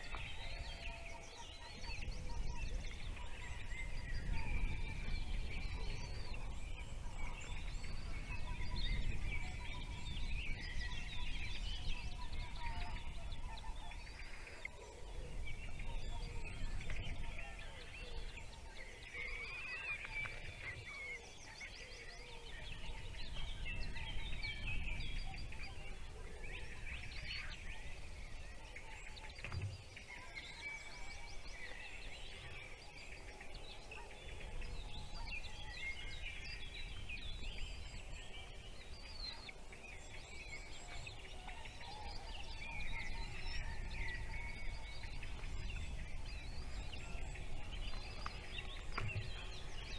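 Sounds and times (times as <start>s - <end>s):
small birds chirping and twittering: 0.0s - 49.9s.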